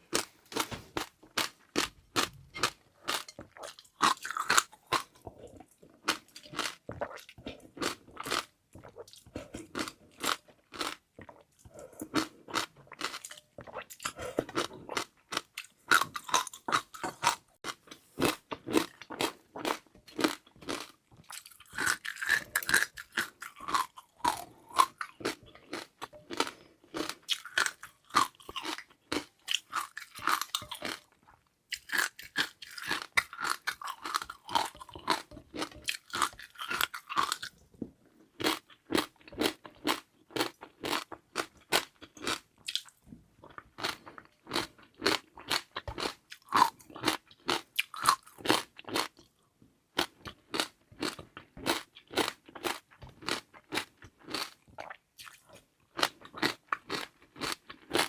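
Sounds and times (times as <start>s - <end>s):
chewing crunchy food: 0.0s - 58.0s.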